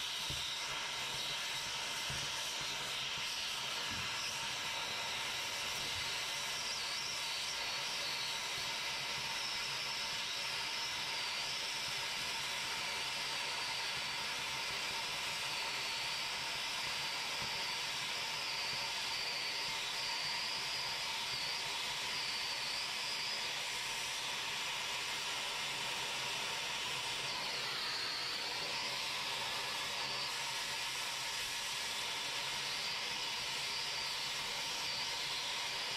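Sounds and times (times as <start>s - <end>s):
cutting torch hissing: 0.0s - 35.9s.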